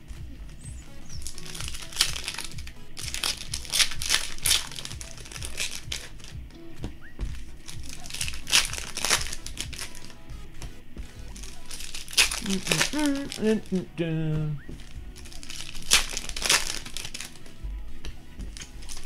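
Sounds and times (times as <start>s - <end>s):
plastic wrapping crinkling: 0.0s - 6.4s, 7.3s - 10.2s, 11.3s - 17.5s, 18.4s - 19.0s
background music: 0.0s - 19.0s.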